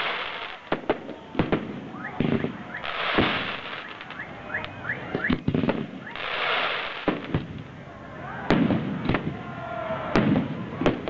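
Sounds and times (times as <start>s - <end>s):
fireworks bursting bangs: 0.0s - 11.0s
fireworks crackling hiss: 0.0s - 11.0s
fireworks rising whistles: 0.0s - 11.0s.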